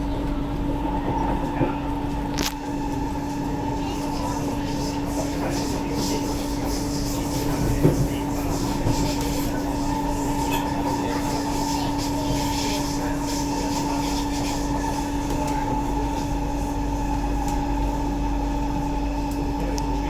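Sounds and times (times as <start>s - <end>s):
metro train car rumbling: 0.0s - 20.0s.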